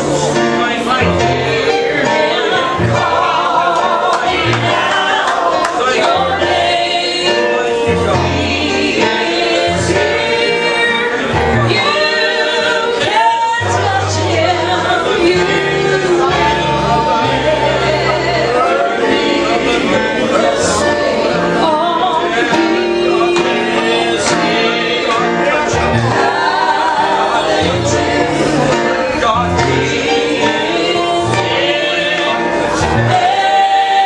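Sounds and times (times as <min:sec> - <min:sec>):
gospel singing by several voices: 0:00.0 - 0:34.0
instrumental accompaniment: 0:00.0 - 0:34.0.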